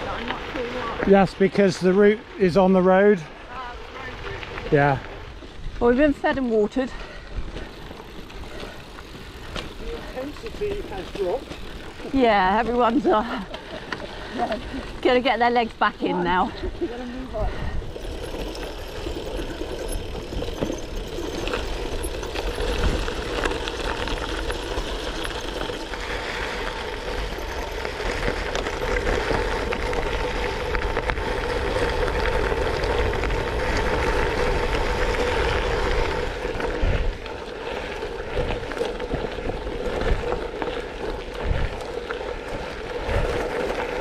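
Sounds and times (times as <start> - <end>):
bike tyres rolling on gravel: 0.0 - 44.0.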